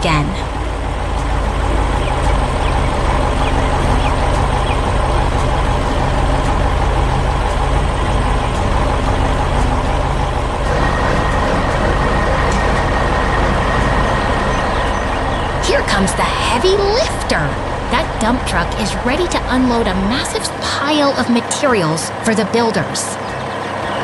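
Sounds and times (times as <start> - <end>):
heavy diesel engines rumbling: 0.0 - 24.0
thin high whine: 0.6 - 22.3.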